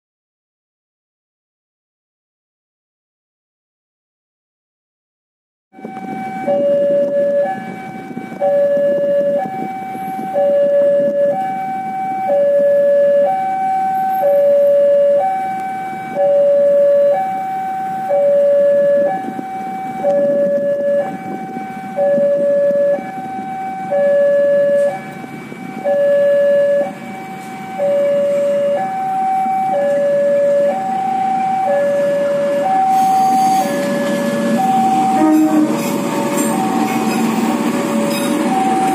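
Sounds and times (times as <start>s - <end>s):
level crossing alarm two-tone: 5.8s - 38.9s.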